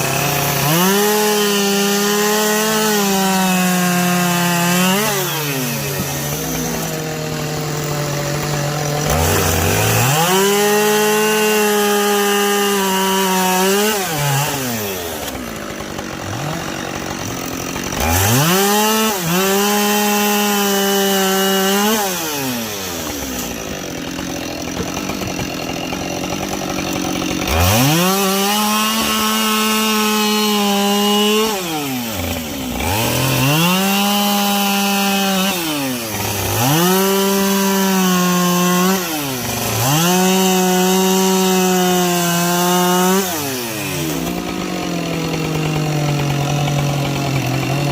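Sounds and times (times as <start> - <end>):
chainsaw revving while cutting logs: 0.0 - 47.9.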